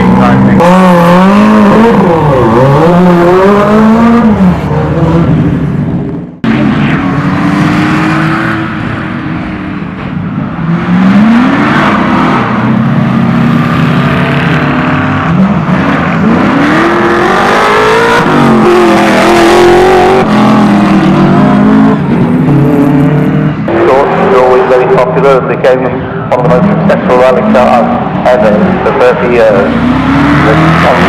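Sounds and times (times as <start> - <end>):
rally car engine accelerating: 0.0 - 31.0.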